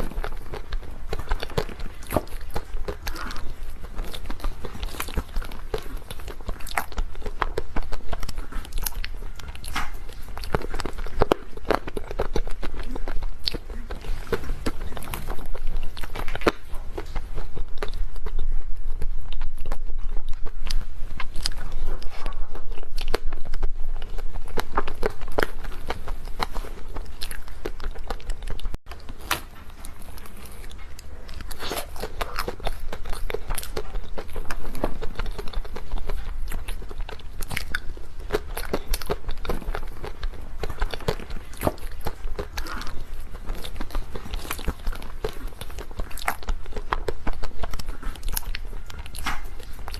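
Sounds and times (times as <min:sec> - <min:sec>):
crunchy biting and chewing: 0:00.0 - 0:49.9.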